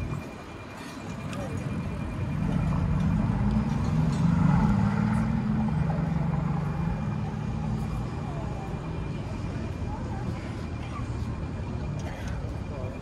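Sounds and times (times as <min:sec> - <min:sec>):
street noise: 0:00.0 - 0:13.0
passing vehicle engine hum: 0:01.1 - 0:13.0.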